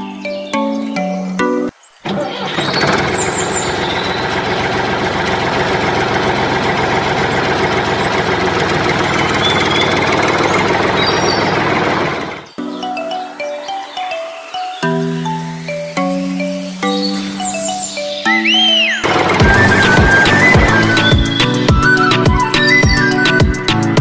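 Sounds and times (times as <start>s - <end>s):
tractor engine running: 2.0s - 13.1s, 15.2s - 24.0s.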